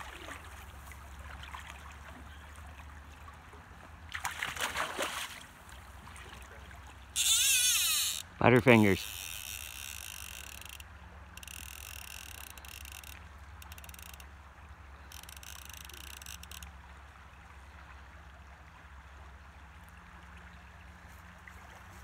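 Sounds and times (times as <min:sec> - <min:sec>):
shallow river flowing: 0:00.0 - 0:22.0.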